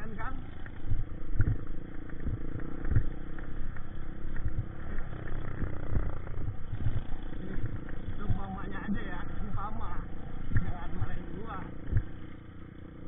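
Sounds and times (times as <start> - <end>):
low thumps: 0.0 - 12.4
dirt bike engine running: 0.0 - 13.0.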